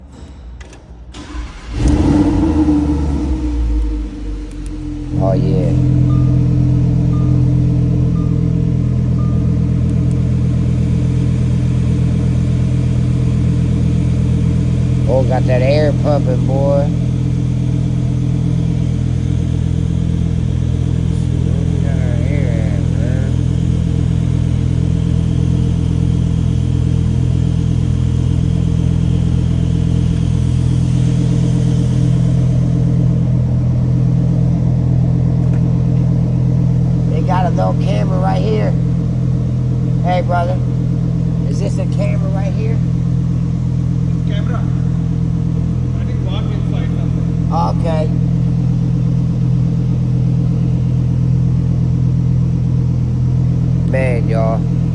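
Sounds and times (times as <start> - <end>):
car engine fast idle: 1.1 - 54.9.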